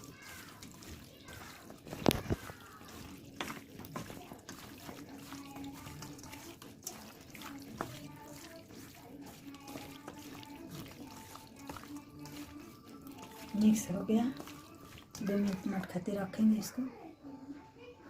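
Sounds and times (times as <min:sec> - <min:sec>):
wet squishing of meat by hand: 0:00.0 - 0:16.1.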